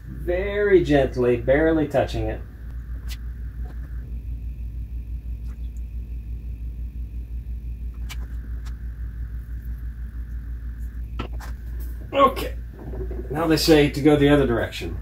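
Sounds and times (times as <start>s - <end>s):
faint high whine: 0.0s - 15.0s
low pulsing machine rumble: 0.0s - 15.0s.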